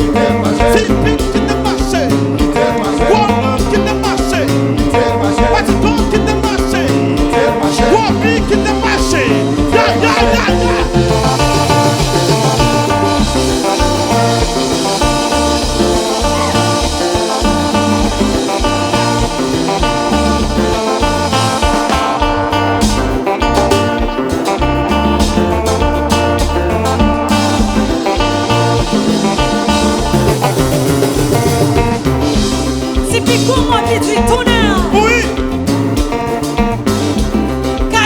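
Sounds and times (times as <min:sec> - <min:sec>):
live band playing: 0:00.0 - 0:38.0
plucked guitar line: 0:00.0 - 0:38.0.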